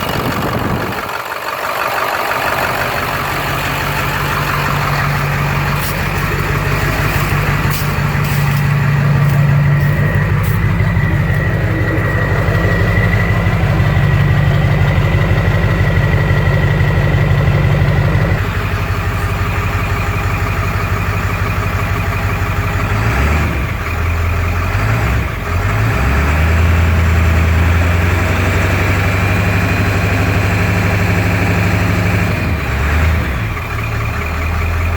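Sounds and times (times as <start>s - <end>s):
engine idling roughly: 0.0s - 34.9s.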